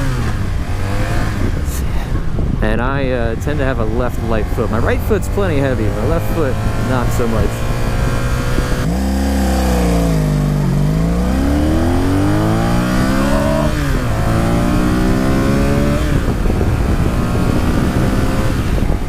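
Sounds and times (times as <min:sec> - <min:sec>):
motorcycle engine revving and shifting: 0:00.0 - 0:02.7, 0:03.3 - 0:19.0.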